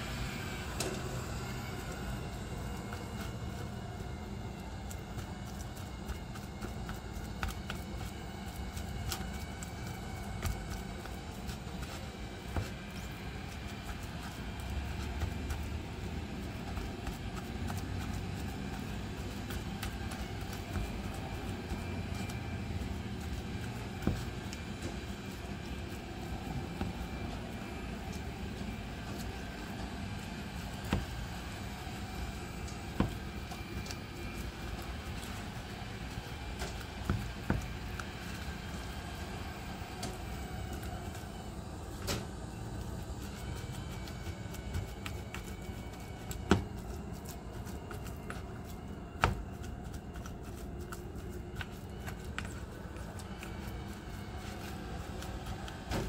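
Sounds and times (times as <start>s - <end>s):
spatula mashing potatoes in bowl: 1.2s - 41.4s, 42.4s - 56.0s.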